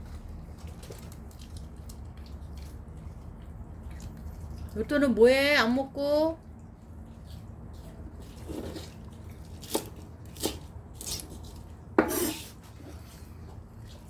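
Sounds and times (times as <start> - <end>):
dog crunching cabbage: 0.0 - 5.8, 6.4 - 14.0.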